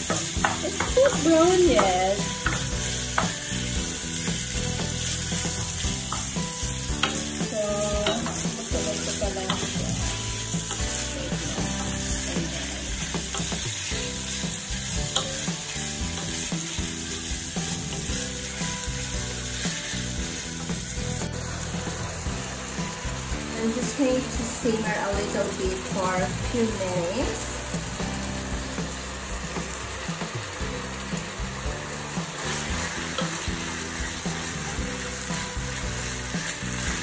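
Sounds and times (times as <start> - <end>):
meat and onions sizzling in pan: 0.0 - 37.0.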